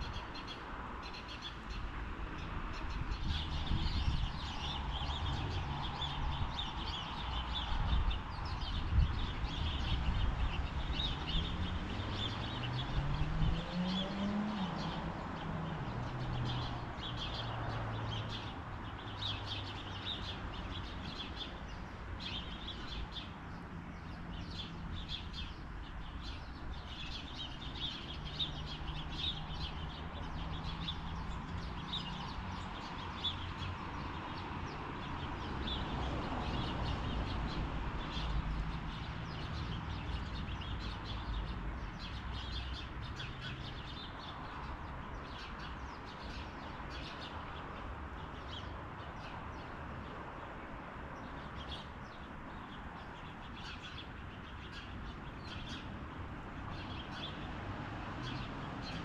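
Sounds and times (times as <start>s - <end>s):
outdoor background noise: 0.0s - 59.0s
songbirds chirping: 0.0s - 59.0s.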